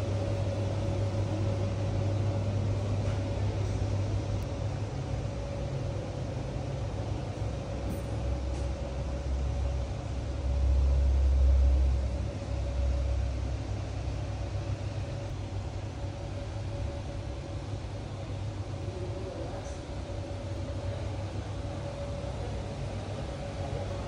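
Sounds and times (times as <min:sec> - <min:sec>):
fans and air conditioning hum: 0:00.0 - 0:24.0.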